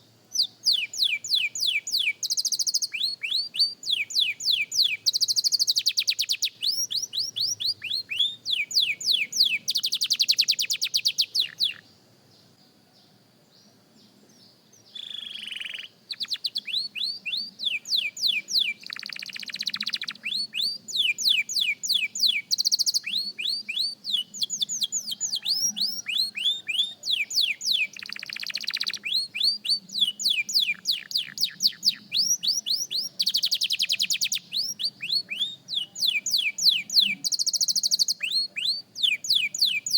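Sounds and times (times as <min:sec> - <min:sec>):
canary singing: 0:00.3 - 0:11.9, 0:14.8 - 0:39.9.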